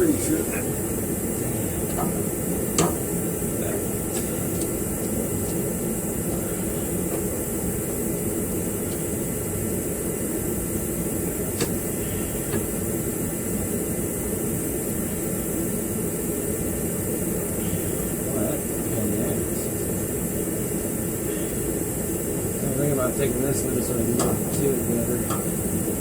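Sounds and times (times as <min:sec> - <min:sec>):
rushing mechanical drone: 0:00.0 - 0:26.0.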